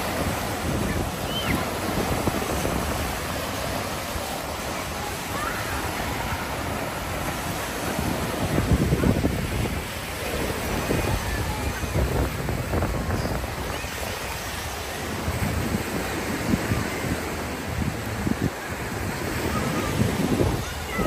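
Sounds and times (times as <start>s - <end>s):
waves washing onto beach: 0.0s - 21.0s
wind buffeting microphone: 0.0s - 21.0s.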